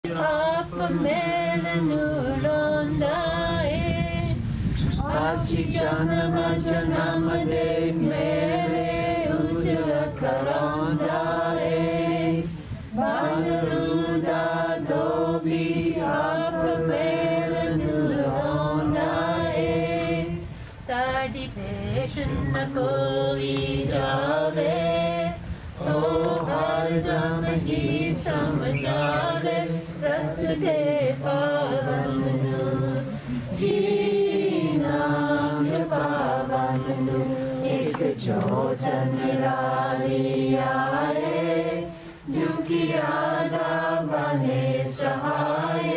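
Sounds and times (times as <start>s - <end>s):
group chanting in unison: 0.0s - 4.0s, 5.0s - 45.9s.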